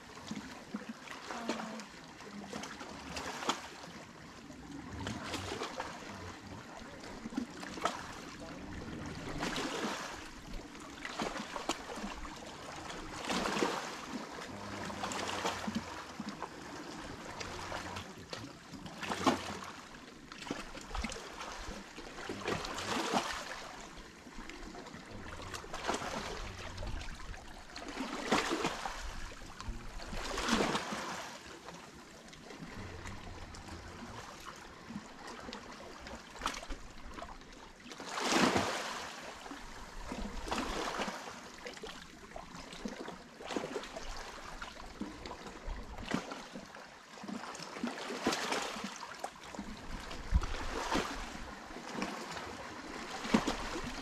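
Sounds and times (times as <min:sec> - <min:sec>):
small waves washing onto shore: 0:00.0 - 0:54.0.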